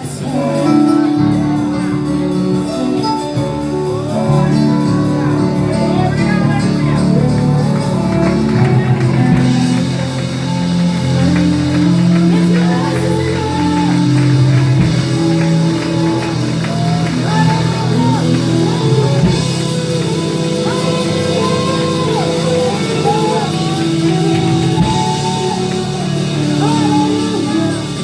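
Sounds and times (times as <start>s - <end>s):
band playing held chords: 0.0s - 28.0s
voices singing and calling out: 0.0s - 28.0s.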